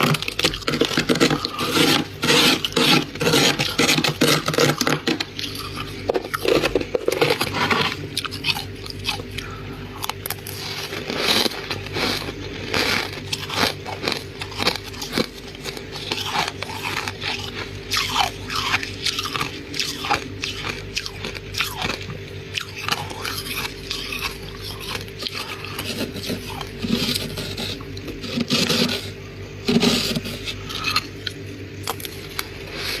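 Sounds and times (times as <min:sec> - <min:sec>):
frost being bitten and chewed: 0:00.0 - 0:29.0, 0:29.7 - 0:33.0
steady low hum: 0:00.0 - 0:33.0.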